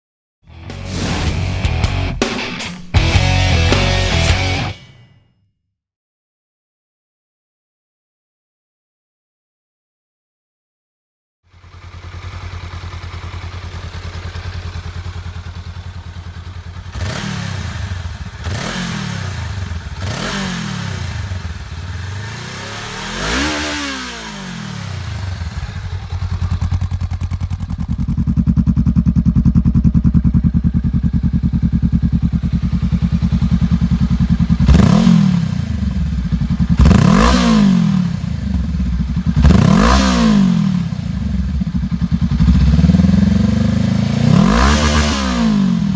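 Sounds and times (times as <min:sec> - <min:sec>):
motorcycle engine idling and revving: 0:00.5 - 0:05.1, 0:11.5 - 0:45.9.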